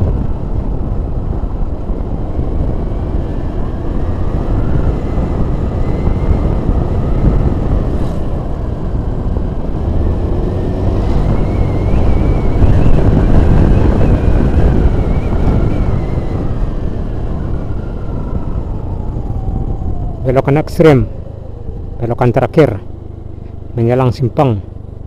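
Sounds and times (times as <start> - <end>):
heavy low rumble: 0.0 - 25.0
vehicle driving on road: 0.0 - 25.0.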